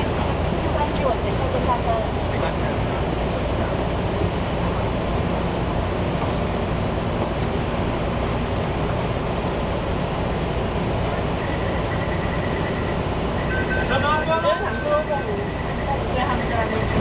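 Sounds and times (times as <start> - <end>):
train running gear rumbling: 0.0 - 17.0.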